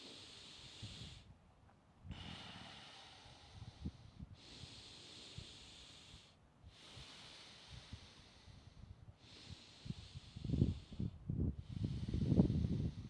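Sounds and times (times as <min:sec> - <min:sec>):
forceful breathing through mouth: 0:00.0 - 0:01.3, 0:02.1 - 0:13.0.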